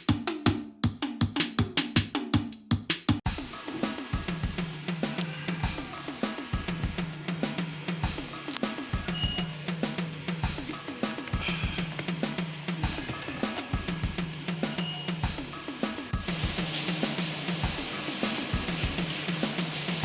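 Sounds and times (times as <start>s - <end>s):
music with drum beat and bass: 0.0s - 20.0s.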